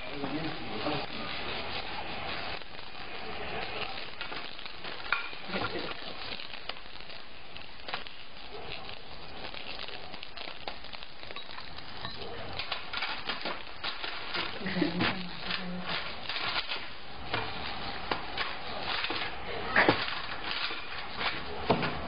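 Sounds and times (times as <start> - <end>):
steady hissing noise: 0.0 - 22.0.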